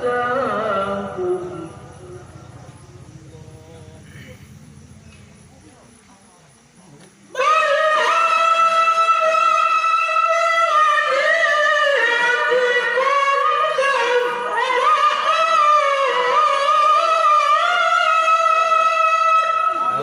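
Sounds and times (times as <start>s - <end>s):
man chanting recitation: 0.0s - 4.8s, 7.0s - 20.0s.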